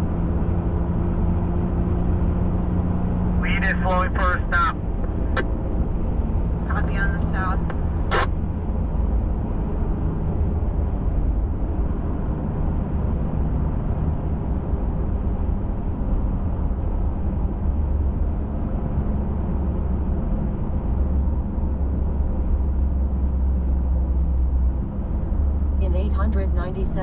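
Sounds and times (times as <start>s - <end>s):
truck engine and tyres rumbling: 0.0s - 27.0s.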